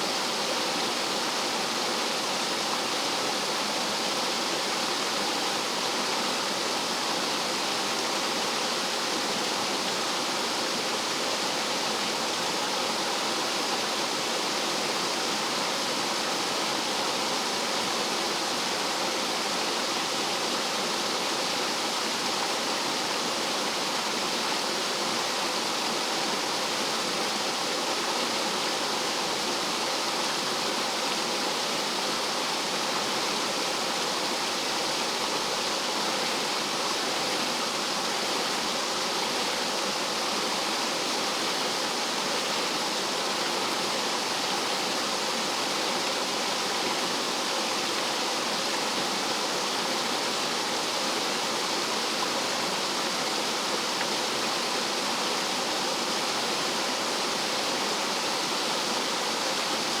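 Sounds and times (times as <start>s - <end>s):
stream water tumbling over rocks: 0.1s - 60.0s.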